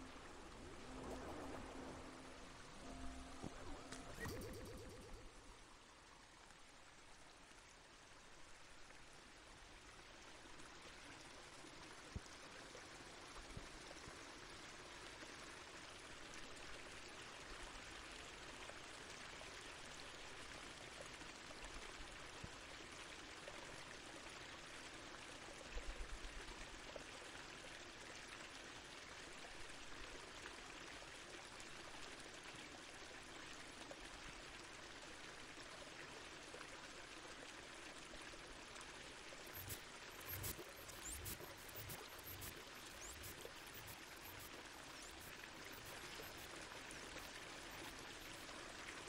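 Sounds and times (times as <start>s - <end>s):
water-like noise hiss: 0.0s - 28.4s, 31.3s - 49.0s.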